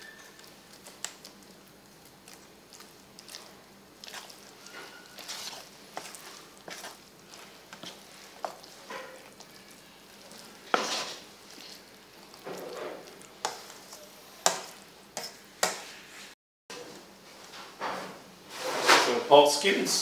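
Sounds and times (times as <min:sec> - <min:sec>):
spoon stirring wet mixture: 0:00.0 - 0:16.1.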